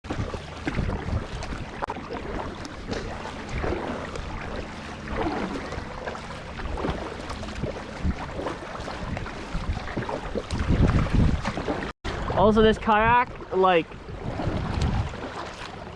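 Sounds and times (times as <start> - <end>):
paddle strokes splashing in water: 0.0 - 15.9
wind on microphone: 0.1 - 15.4.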